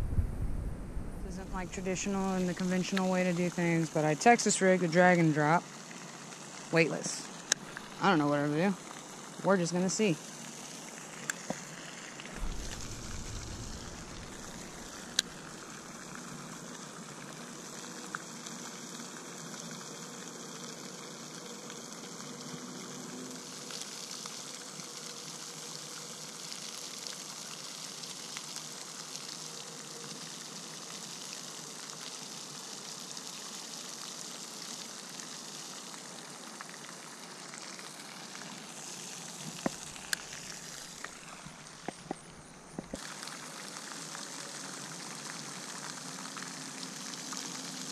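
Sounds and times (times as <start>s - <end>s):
steady outdoor hiss: 0.0s - 47.9s.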